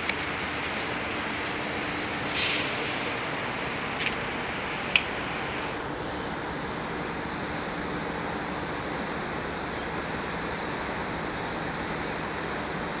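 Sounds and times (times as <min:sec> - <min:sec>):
passenger train running: 0:00.0 - 0:13.0.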